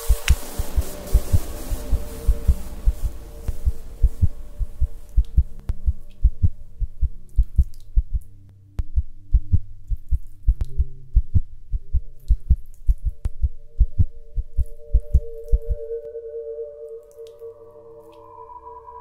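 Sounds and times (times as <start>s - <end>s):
heartbeat-like low thumps: 0.0s - 15.9s
low drone tones: 0.0s - 19.0s.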